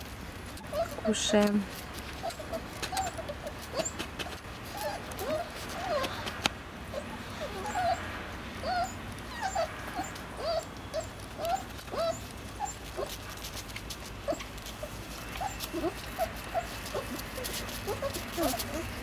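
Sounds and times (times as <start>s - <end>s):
puppies whimpering and squeaking: 0.4s - 19.0s.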